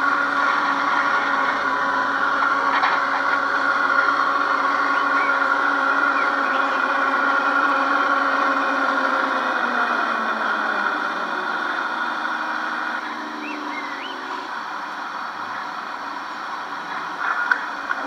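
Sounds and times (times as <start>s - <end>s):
model train motor whirring: 0.0s - 18.0s.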